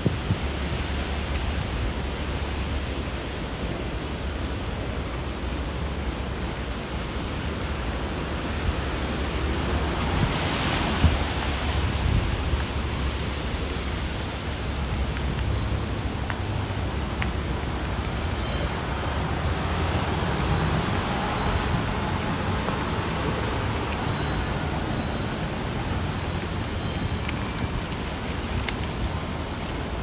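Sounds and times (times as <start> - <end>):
storm rain: 0.0 - 30.0
wind: 0.0 - 30.0.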